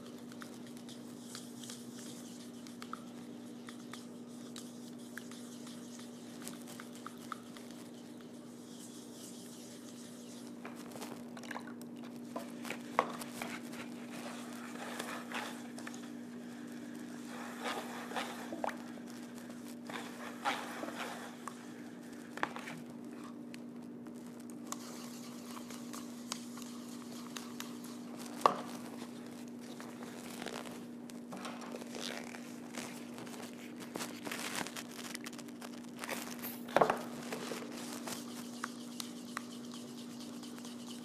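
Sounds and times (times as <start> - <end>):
paintbrush brushing and scraping: 0.0 - 11.3, 12.2 - 23.4, 24.7 - 30.9, 36.3 - 41.0
steady low hum: 0.0 - 41.0.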